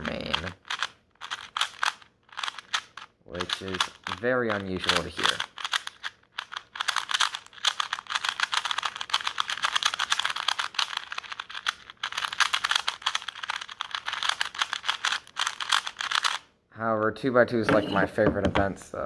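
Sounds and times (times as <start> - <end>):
speed cube clicking: 0.0 - 16.5.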